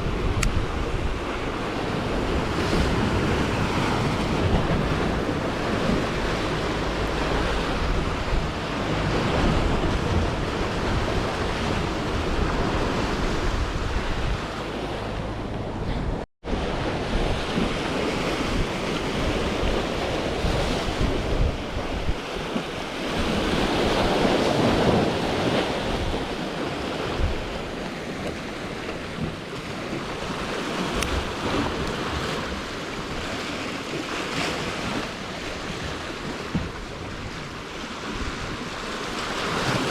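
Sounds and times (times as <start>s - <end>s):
sea waves washing against concrete: 0.0s - 39.9s
wind buffeting microphone: 0.0s - 39.9s.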